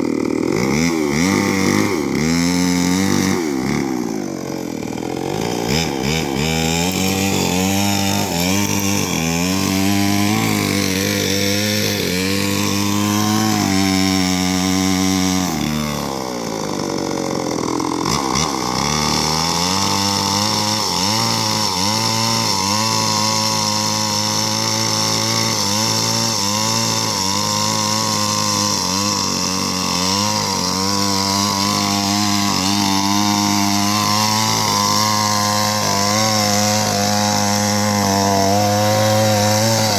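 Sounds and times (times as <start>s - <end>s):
chainsaw cutting into tree trunk: 0.0s - 39.9s.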